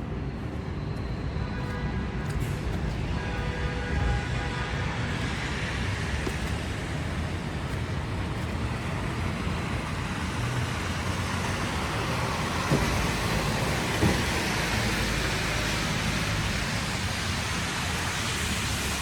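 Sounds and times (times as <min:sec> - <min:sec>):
traffic rumble and tyre hiss: 0:00.0 - 0:19.0.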